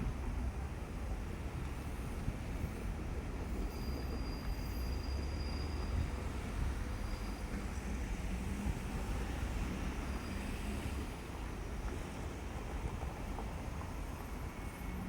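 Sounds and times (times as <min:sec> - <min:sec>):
diesel railcar engine rumble: 0:00.0 - 0:15.0.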